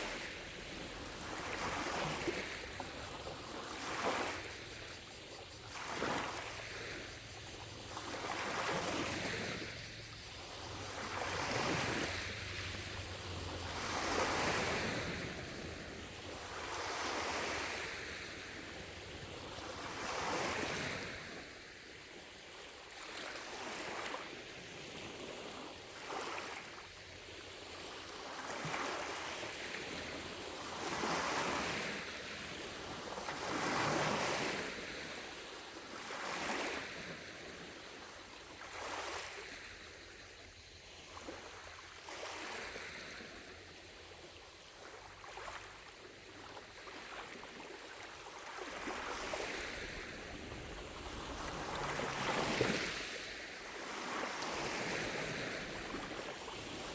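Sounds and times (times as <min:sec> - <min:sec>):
lake waves lapping on shore: 0:00.0 - 0:56.9.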